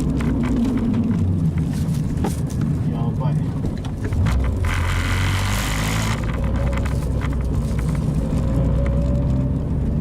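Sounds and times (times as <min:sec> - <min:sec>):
car engine running under load: 0:00.0 - 0:10.0.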